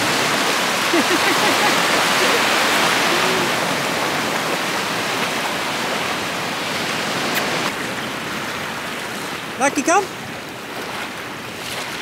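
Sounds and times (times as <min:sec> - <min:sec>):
surf washing over sand: 0:00.0 - 0:12.0.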